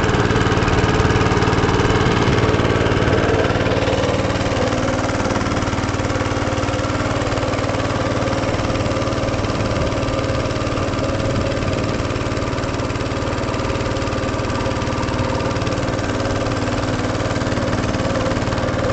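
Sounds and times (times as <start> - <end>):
engine running steadily: 0.0 - 18.9.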